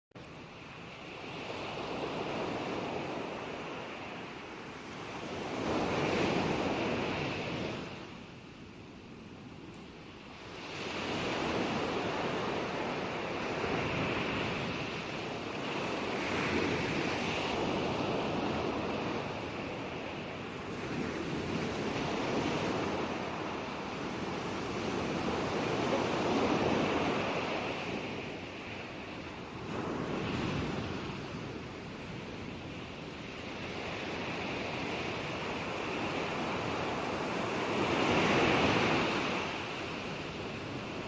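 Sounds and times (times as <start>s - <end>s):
ocean waves breaking on shore: 0.2s - 41.0s.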